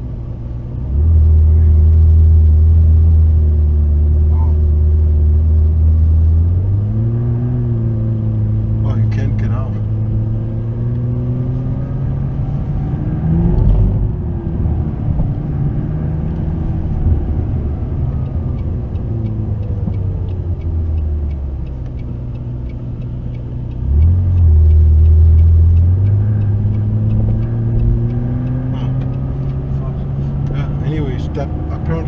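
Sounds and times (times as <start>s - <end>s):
sports car engine revving: 0.0s - 32.0s.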